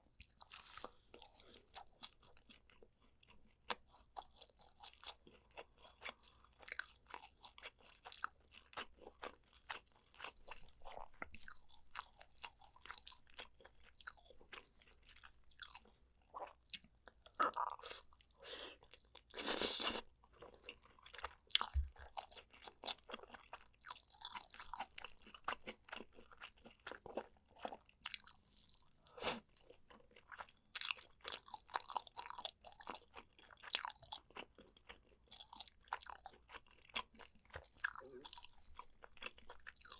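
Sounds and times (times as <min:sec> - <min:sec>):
chewing and biting: 0:00.2 - 0:39.9.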